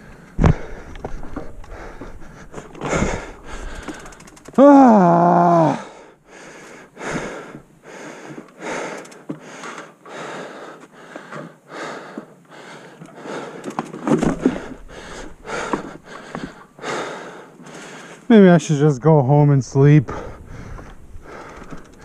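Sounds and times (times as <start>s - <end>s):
heavy breathing: 0.0s - 4.4s, 5.6s - 18.3s, 20.1s - 22.0s.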